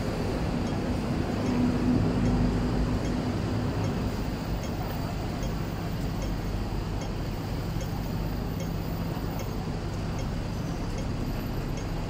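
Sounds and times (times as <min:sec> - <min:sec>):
traffic hum: 0:00.0 - 0:12.0
faint regular ticking: 0:00.2 - 0:12.0.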